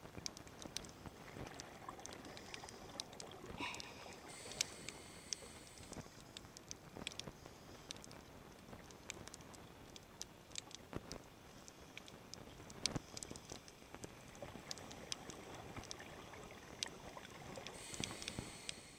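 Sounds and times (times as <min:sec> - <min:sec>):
sharp clicks and crackles: 0:00.0 - 0:16.1
faint underwater hiss: 0:00.4 - 0:10.1, 0:11.4 - 0:18.9.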